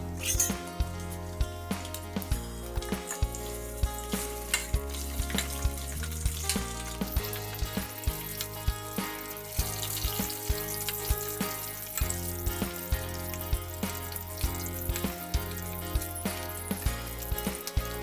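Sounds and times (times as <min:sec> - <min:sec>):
background music with low beat: 0:00.0 - 0:18.0
food sizzling in hot oil: 0:00.0 - 0:18.0.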